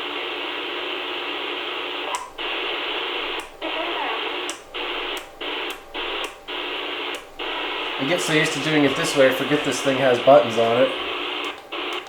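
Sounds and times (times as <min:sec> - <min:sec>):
radio static hissing: 0:00.0 - 0:12.0
radio channel click: 0:02.0 - 0:12.0.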